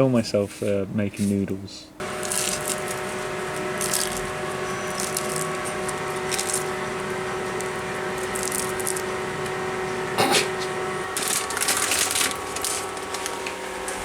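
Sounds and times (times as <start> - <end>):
steady tonal hum: 1.6 - 14.0.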